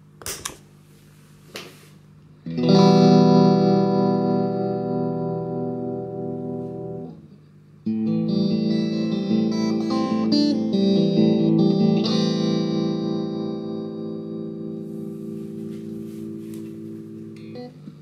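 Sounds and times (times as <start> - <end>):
electric guitar with tremolo: 2.4 - 18.0.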